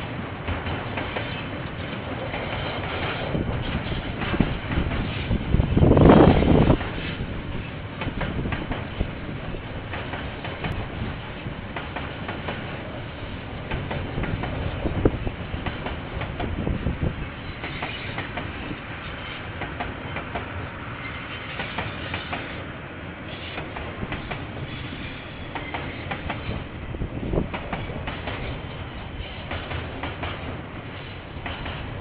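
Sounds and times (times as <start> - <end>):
train rumble: 0.0 - 32.0
train wheels clattering over rail joints: 0.4 - 13.0, 13.6 - 22.6, 23.3 - 32.0.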